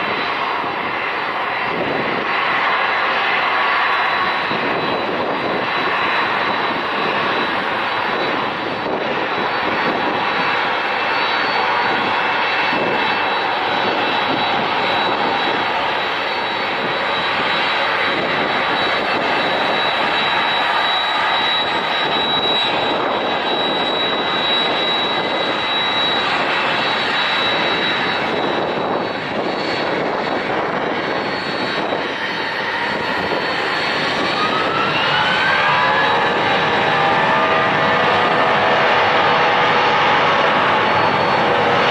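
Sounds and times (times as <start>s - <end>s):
jet engines roaring: 0.0s - 41.9s.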